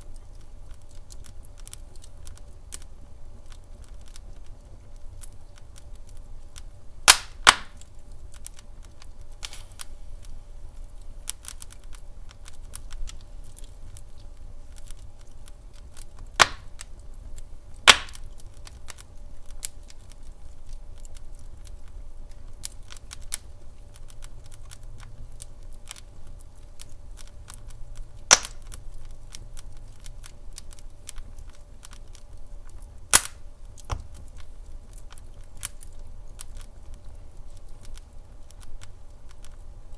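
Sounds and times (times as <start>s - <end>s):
sharp pops from burning logs: 0.0s - 39.9s
wood fire crackling: 0.0s - 39.9s.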